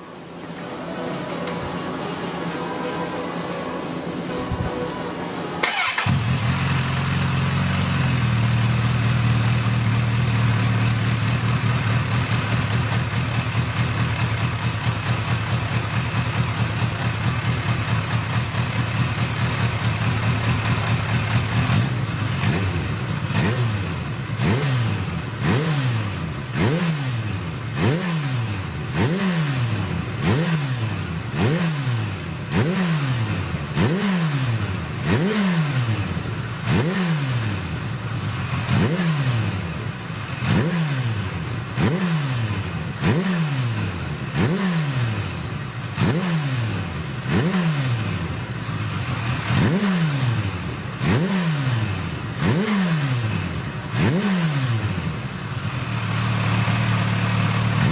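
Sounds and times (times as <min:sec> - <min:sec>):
engine revving: 0:00.5 - 0:57.9
motorcycle engine idling: 0:05.6 - 0:57.9.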